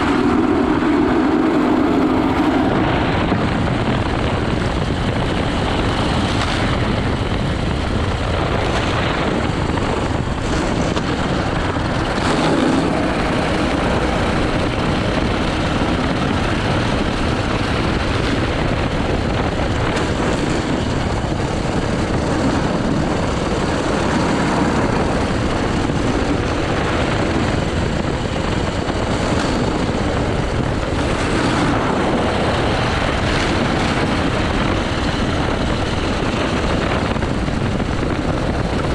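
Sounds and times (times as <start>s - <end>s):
go-kart engine running: 0.0s - 38.9s
loud rushing noise: 0.0s - 38.9s.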